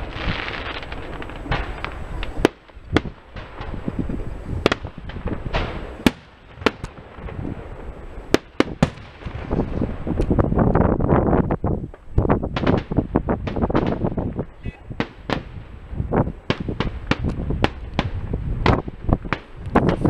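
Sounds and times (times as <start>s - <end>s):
firework bangs: 0.0s - 20.0s
firework crackling: 0.0s - 20.0s
low rumbling: 0.0s - 20.0s.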